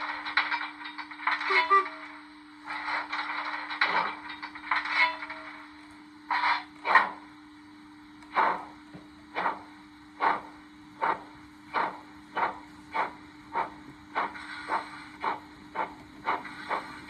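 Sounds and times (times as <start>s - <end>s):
steam locomotive chuffs from speaker: 0.0s - 5.7s, 8.3s - 17.0s
steady low hum: 0.0s - 17.0s.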